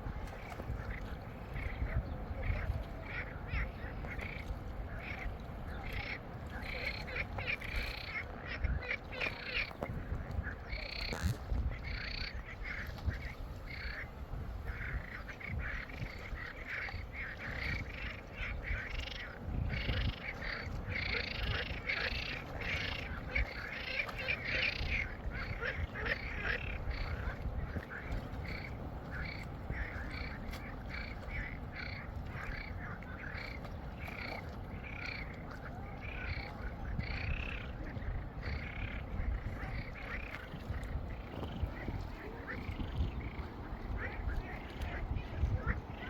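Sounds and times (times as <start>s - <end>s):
frogs croaking in chorus: 0.3s - 46.0s.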